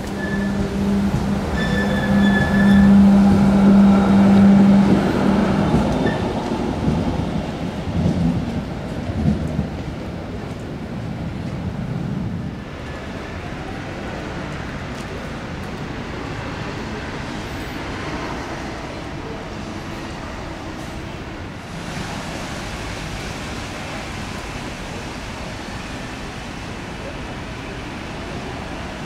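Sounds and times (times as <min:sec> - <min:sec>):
city traffic rumbling: 0:00.0 - 0:29.0.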